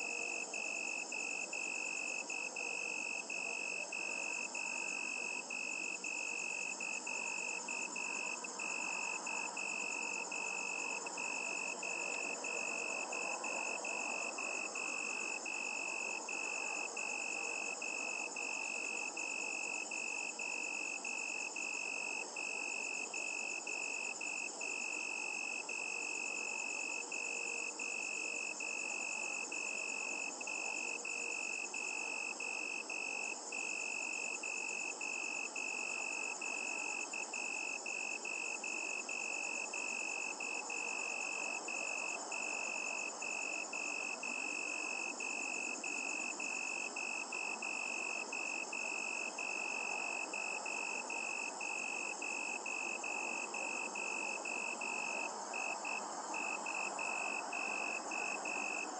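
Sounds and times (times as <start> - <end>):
crickets trilling: 0.0 - 58.9.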